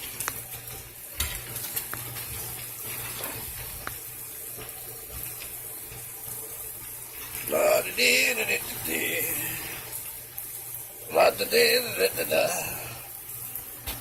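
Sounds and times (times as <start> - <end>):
cabbage sizzling in a pan: 0.0 - 14.0.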